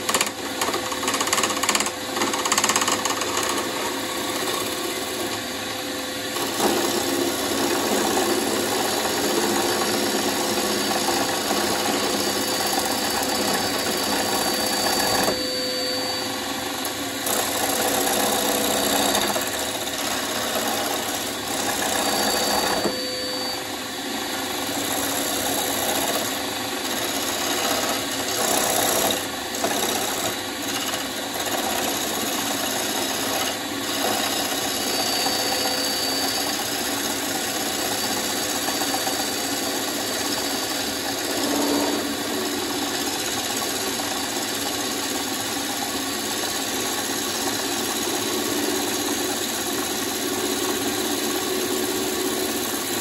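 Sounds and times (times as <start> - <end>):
lathe gouge cutting spinning wood: 0.0 - 53.0.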